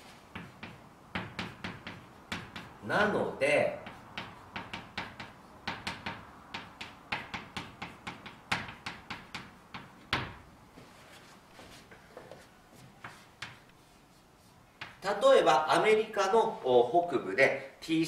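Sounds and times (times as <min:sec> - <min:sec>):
chalk tapping on blackboard: 0:00.0 - 0:15.2.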